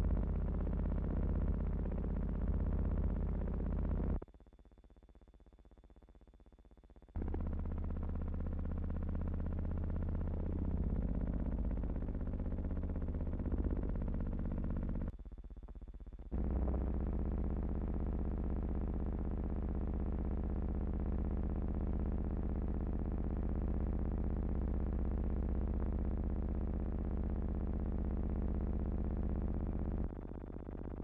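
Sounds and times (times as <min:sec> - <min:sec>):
low synthesizer drone: 0:00.0 - 0:04.2, 0:07.2 - 0:15.2, 0:16.2 - 0:31.0.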